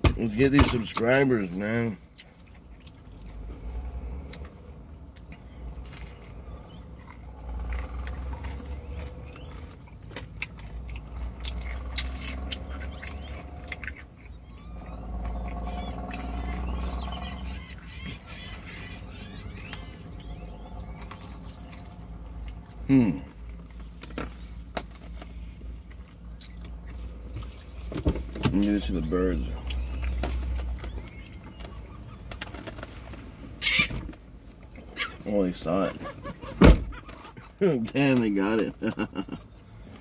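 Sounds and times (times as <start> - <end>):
birds chirping: 0.0 - 40.0
chewing and mouth clicks: 0.9 - 33.2.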